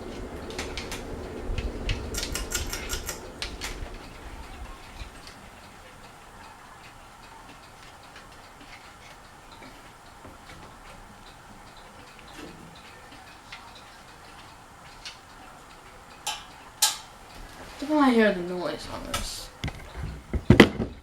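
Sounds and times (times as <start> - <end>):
sharp clicks: 0.0 - 17.2
ceiling fan humming: 0.0 - 21.0
faint ticks: 0.0 - 21.0.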